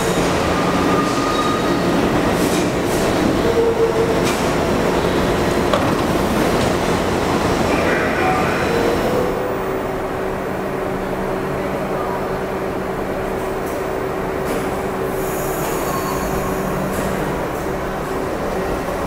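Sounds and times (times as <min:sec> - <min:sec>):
subway train two-tone hum: 0:00.0 - 0:19.0.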